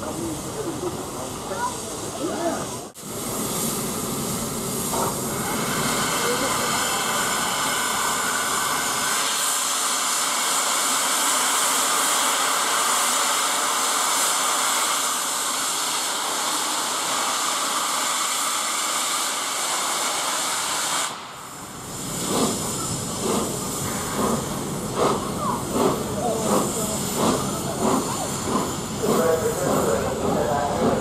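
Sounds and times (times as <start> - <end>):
steam locomotive exhaust beats: 0.0 - 31.0.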